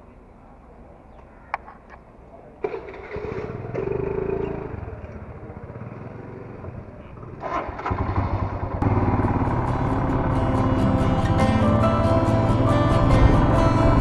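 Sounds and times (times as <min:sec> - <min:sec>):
motorcycle engine revving: 0:02.6 - 0:14.0
motorcycle engine starting and idling: 0:02.6 - 0:14.0.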